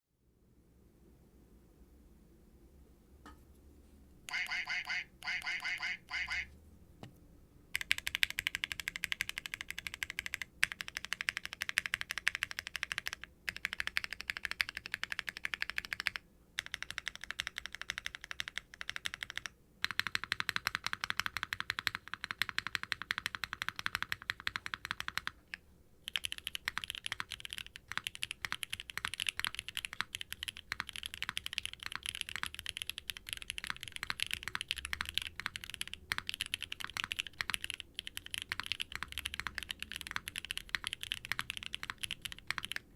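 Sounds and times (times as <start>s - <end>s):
fast mechanical keyboard typing: 7.8s - 42.9s.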